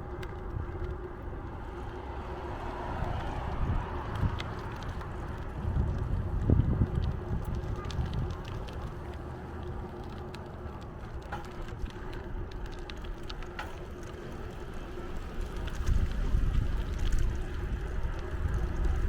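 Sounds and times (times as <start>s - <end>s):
bicycle rolling hum: 0.0s - 19.0s
wind buffeting microphone: 0.0s - 19.0s.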